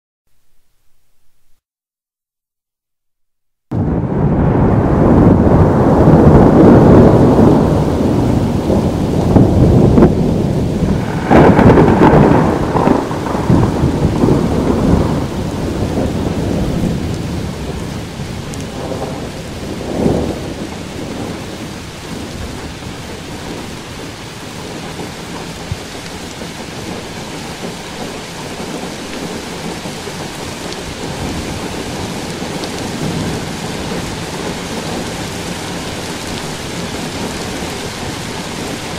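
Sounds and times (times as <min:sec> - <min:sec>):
thunder crack: 0:03.7 - 0:37.8
steady rain: 0:03.7 - 0:38.9
thunder rolling: 0:03.7 - 0:38.9.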